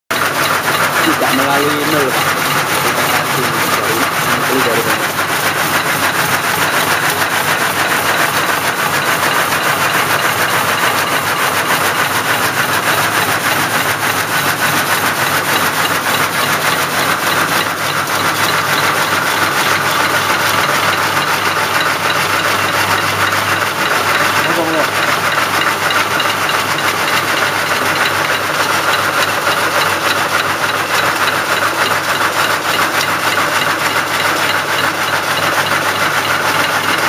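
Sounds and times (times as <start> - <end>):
machine running with fast clatter: 0.1 - 37.0.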